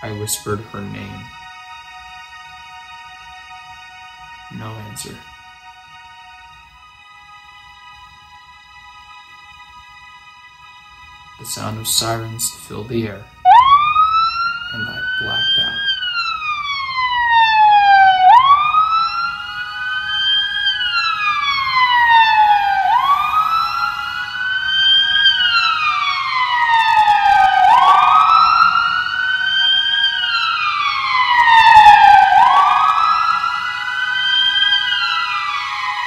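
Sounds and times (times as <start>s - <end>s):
emergency sirens wailing: 0.0s - 36.0s.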